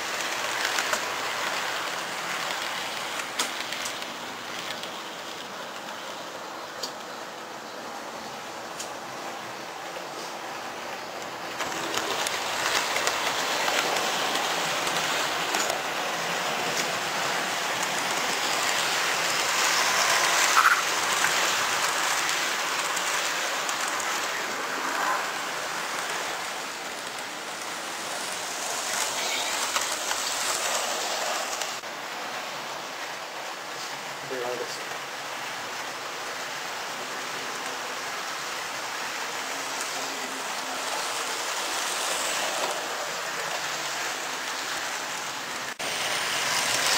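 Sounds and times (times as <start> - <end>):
model train wheels clattering: 0.0 - 7.2, 11.0 - 31.8, 37.0 - 46.9.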